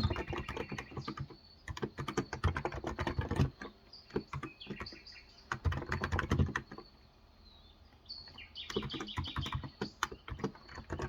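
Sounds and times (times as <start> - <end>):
typing on a keyboard: 0.0 - 6.9, 8.3 - 11.0
birds chirping: 0.0 - 11.0.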